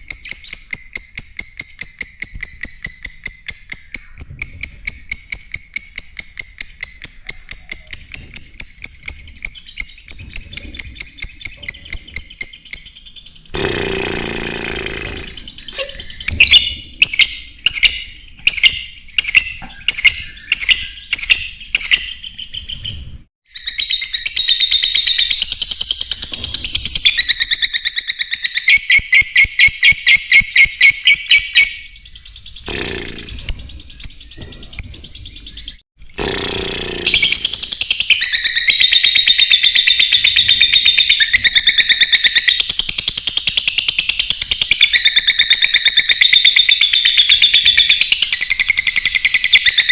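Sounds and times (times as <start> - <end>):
lovebirds chirping: 0.0 - 49.9.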